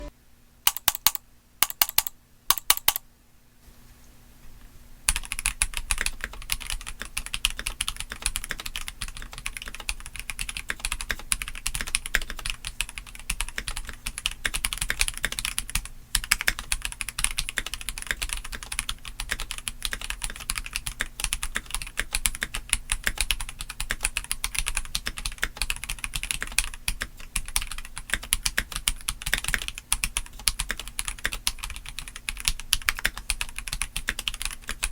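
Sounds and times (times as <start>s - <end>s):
mechanical keyboard typing: 0.7s - 3.0s, 5.1s - 34.9s.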